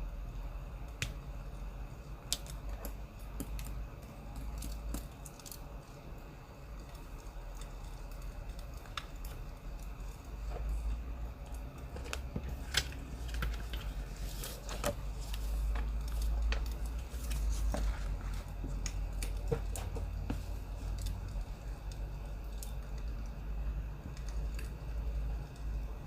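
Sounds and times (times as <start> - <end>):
firewood crackling: 0.3 - 26.0.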